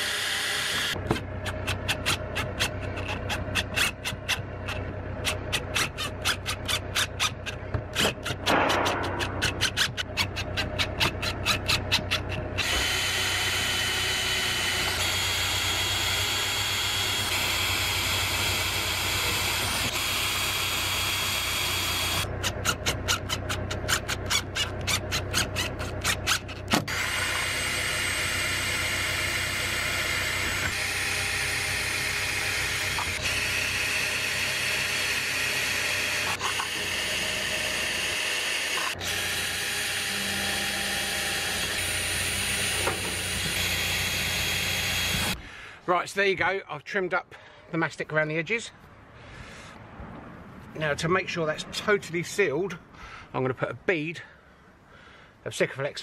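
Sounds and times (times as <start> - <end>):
impact driver hammering: 0.0 - 45.4
impact driver whining: 0.0 - 45.6.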